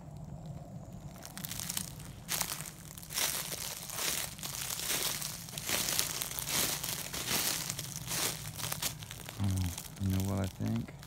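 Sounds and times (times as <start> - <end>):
footsteps crunching through dry leaves: 1.1 - 11.0.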